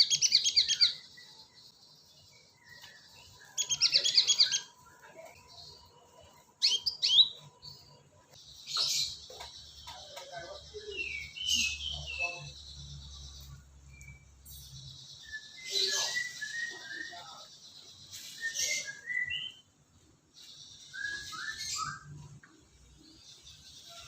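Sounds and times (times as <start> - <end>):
bird chirping notes: 0.0 - 24.0.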